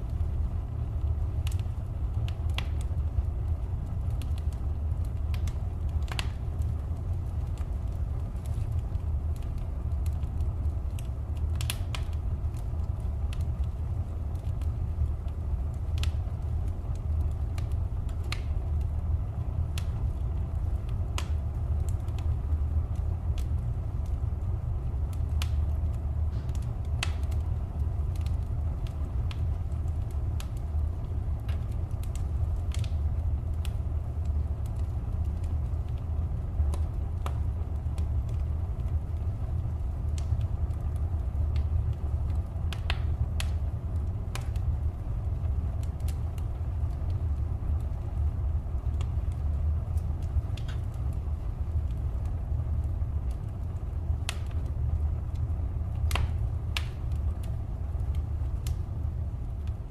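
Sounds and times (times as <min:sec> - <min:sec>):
fire crackling and popping: 0:00.0 - 0:59.9
low fire rumble: 0:00.0 - 0:59.9.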